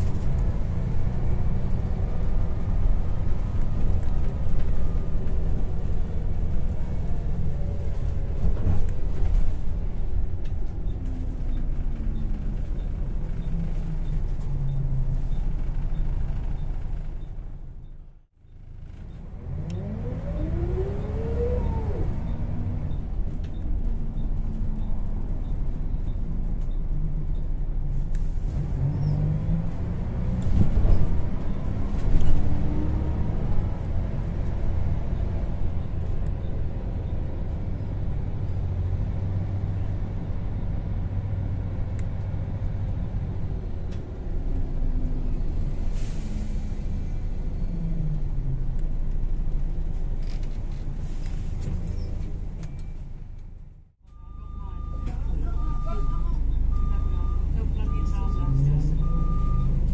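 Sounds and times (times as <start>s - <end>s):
bus diesel engine rumbling: 0.0s - 59.9s
rising whine of bus accelerating: 0.0s - 59.9s.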